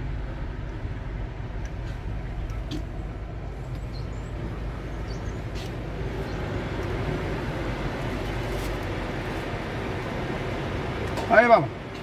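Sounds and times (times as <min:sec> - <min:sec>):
car engine rumble from inside cabin: 0:00.0 - 0:12.0.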